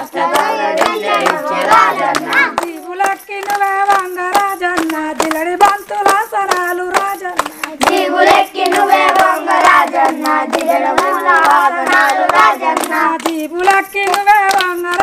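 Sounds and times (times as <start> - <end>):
hands clapping rhythmically: 0.0 - 15.0
woman and children singing: 0.0 - 15.0.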